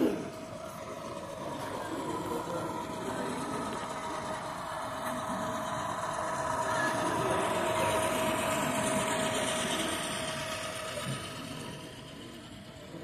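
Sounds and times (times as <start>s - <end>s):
model locomotives whining: 0.0s - 13.0s.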